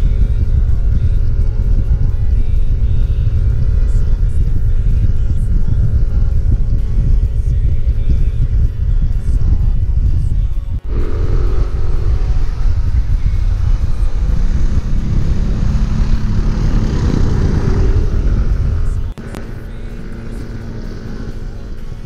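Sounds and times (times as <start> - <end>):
scooter engine running: 0.0 - 22.0
wind rumble on microphone: 0.0 - 22.0.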